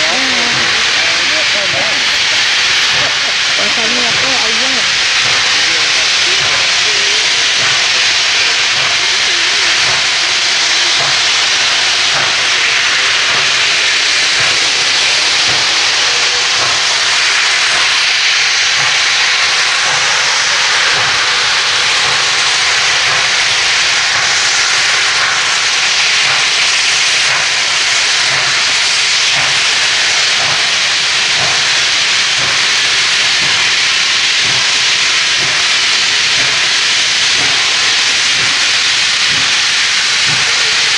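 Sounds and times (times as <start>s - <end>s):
steam locomotive hissing: 0.0s - 40.9s.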